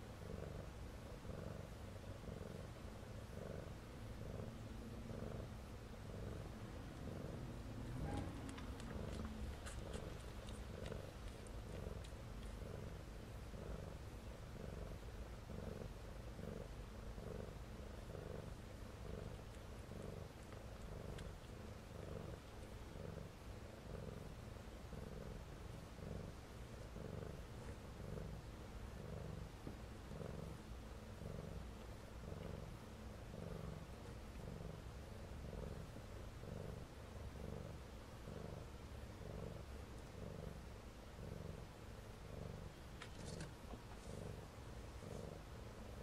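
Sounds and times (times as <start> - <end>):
cat purring: 0.0 - 46.0.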